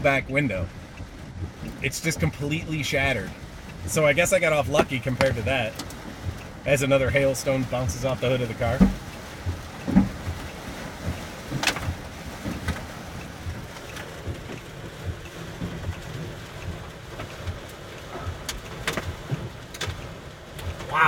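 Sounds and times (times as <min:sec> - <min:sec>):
hailstones knocking on car: 0:00.0 - 0:21.0
heavy rain on car roof: 0:00.0 - 0:21.0.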